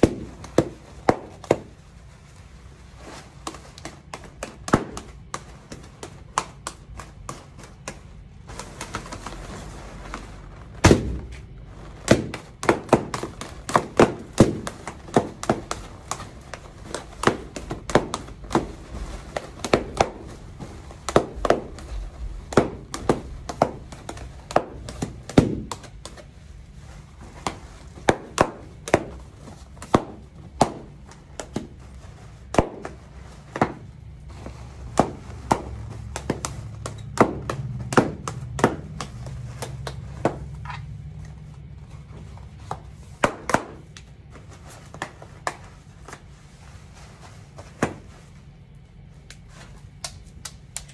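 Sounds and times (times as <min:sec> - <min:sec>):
balloons popping: 0:00.0 - 0:50.9.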